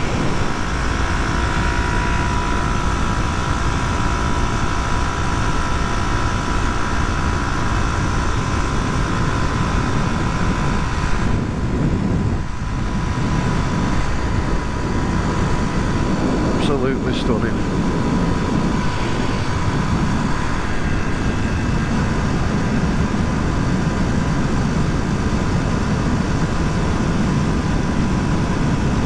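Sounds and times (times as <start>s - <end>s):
motorcycle engine cruising: 0.0s - 29.0s
wind noise on microphone: 0.0s - 29.0s.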